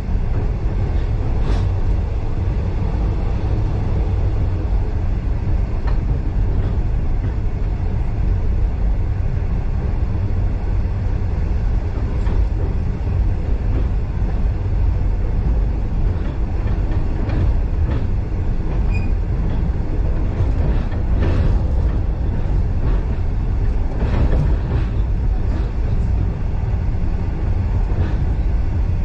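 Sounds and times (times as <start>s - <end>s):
rail joint clicks: 0.0s - 29.0s
train wheels rumbling on track: 0.0s - 29.0s.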